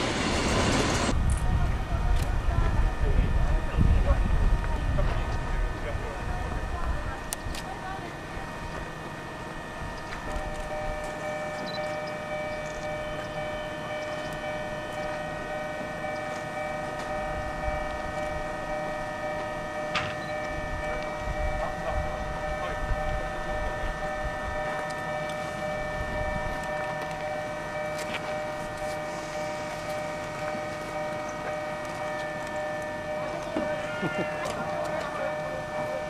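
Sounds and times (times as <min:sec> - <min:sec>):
electric railcar whine: 0:00.0 - 0:36.0.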